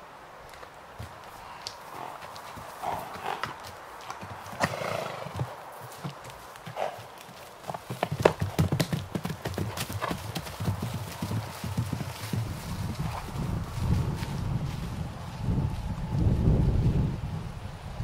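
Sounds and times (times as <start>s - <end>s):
hooves thudding on grass: 0.4s - 17.4s.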